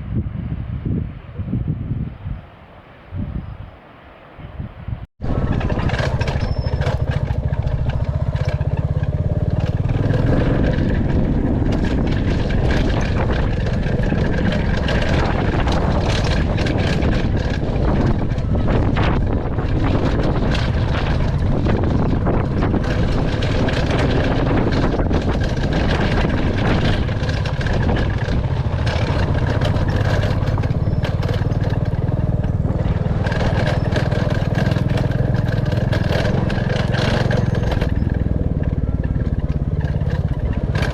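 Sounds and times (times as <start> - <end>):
motorcycle engine running: 5.2 - 40.9
short knocks and rattles: 5.4 - 40.9.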